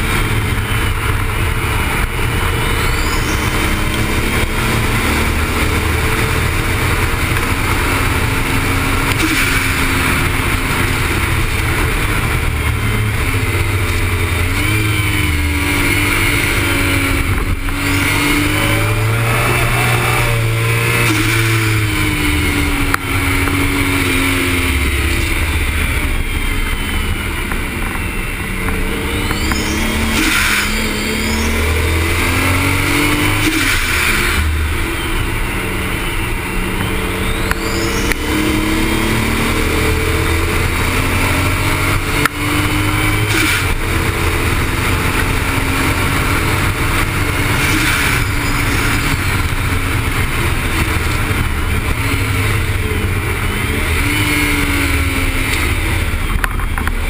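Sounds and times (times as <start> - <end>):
car engine revving through gears: 0.0 - 57.0
wind and road noise: 0.0 - 57.0.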